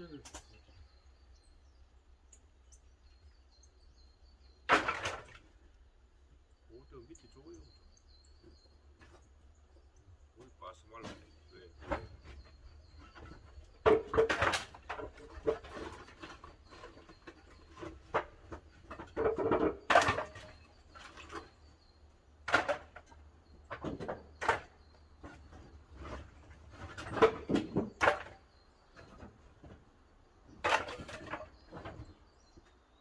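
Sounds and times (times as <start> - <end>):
firewood knocking and clattering: 4.4 - 5.6, 7.1 - 32.8.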